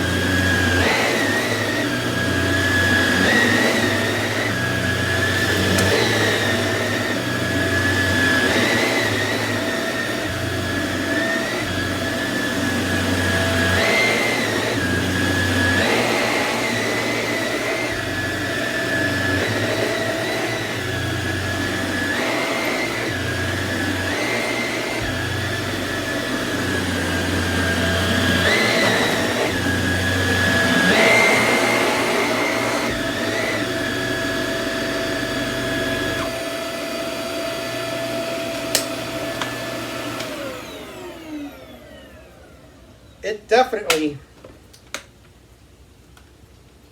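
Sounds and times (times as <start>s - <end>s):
vacuum cleaner motor whine: 0.0s - 43.2s.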